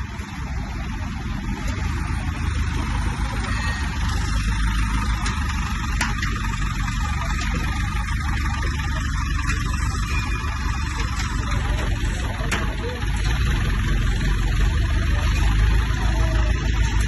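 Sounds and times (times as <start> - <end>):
diesel generator running: 0.0 - 17.0.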